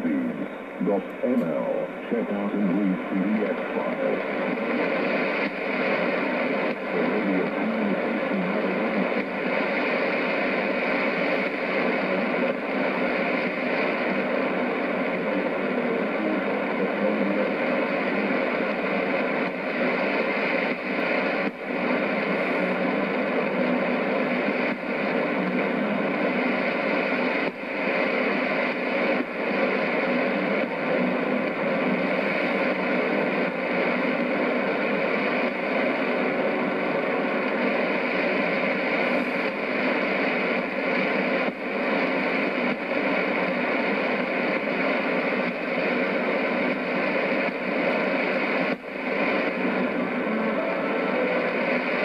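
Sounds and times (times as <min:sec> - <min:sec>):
faint steady tones: 0:00.0 - 0:52.0
radio static: 0:00.0 - 0:52.0.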